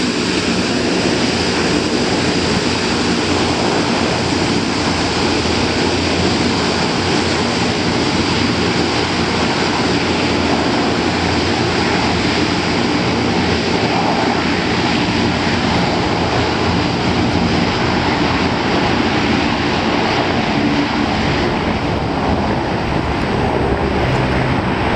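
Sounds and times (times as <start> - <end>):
turboprop aircraft engines: 0.0 - 24.9.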